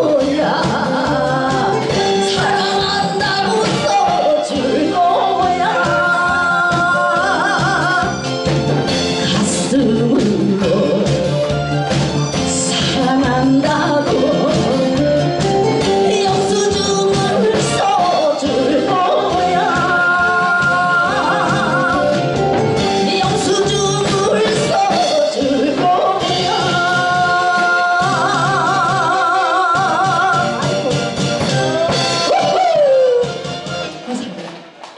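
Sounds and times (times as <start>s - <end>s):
woman singing into a microphone: 0.0s - 8.2s, 9.2s - 11.3s, 12.5s - 15.1s, 15.8s - 33.4s
instrumental accompaniment: 0.0s - 34.9s.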